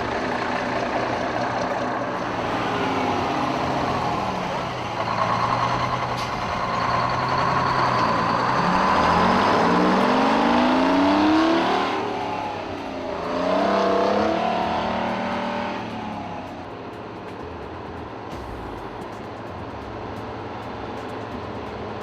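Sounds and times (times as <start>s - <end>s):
truck engine accelerating: 0.0s - 22.0s.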